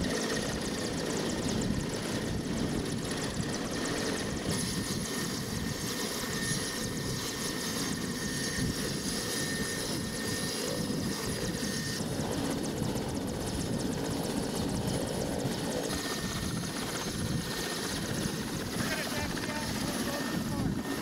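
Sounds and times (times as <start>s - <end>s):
helicopter rotor blade chop: 0.0s - 21.0s
helicopter turbine whine: 0.0s - 21.0s.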